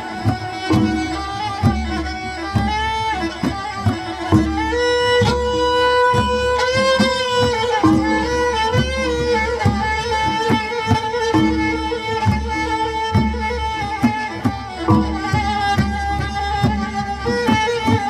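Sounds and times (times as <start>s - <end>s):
bowed string melody: 0.0s - 18.0s
steady drum beat: 0.0s - 18.0s.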